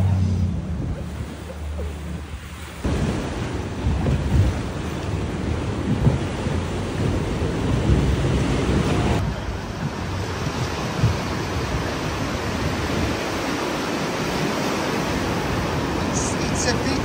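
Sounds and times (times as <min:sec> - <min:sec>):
waves washing: 0:00.0 - 0:17.0
wind buffeting microphone: 0:00.4 - 0:17.0.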